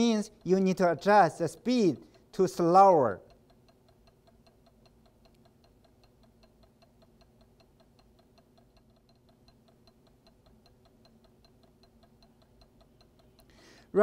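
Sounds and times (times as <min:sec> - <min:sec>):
faint regular ticking: 0:00.0 - 0:14.0.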